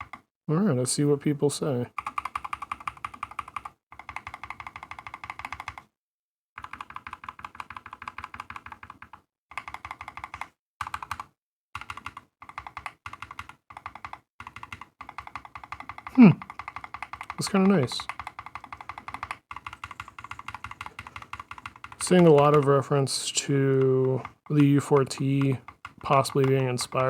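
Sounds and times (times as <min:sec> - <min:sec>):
typing on mechanical keyboard: 0:00.0 - 0:00.2, 0:01.9 - 0:05.9, 0:06.6 - 0:27.0.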